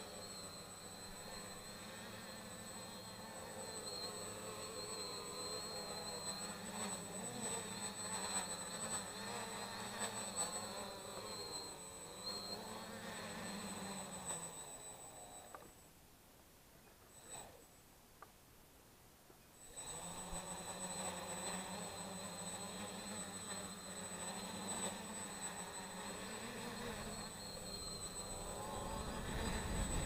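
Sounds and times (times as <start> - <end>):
quadcopter propellers buzzing: 0.0 - 15.9, 16.9 - 17.8, 19.6 - 30.0.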